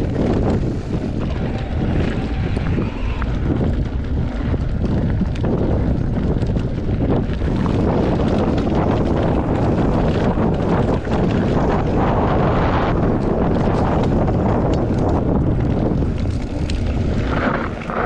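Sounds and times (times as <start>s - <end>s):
small clicks and rattles: 0.0s - 18.0s
wind buffeting microphone: 0.0s - 18.0s.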